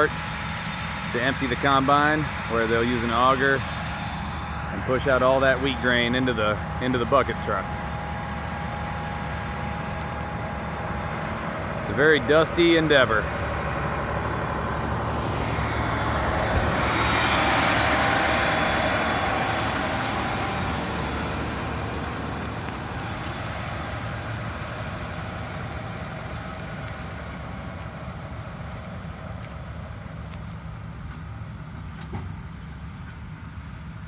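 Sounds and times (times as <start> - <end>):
combine harvester engines running: 0.0 - 34.0.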